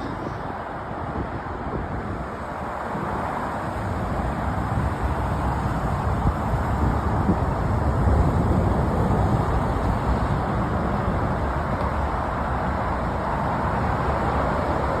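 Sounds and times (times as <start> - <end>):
low rumbling outdoor noise: 0.0 - 15.0.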